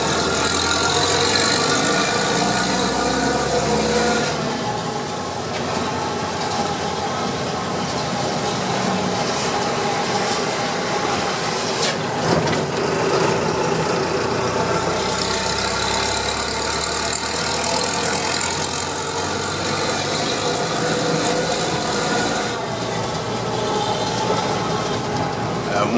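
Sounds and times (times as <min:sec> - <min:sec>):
truck diesel engine running: 0:00.0 - 0:25.9.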